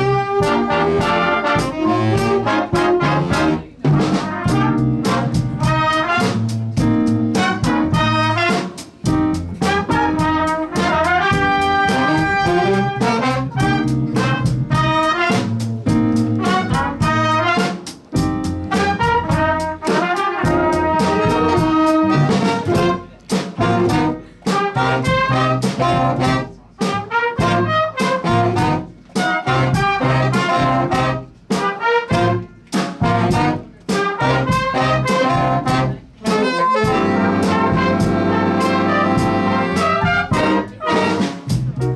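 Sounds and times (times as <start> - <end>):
drums: 0.0 - 41.9
trumpets and trombones playing: 0.0 - 41.9.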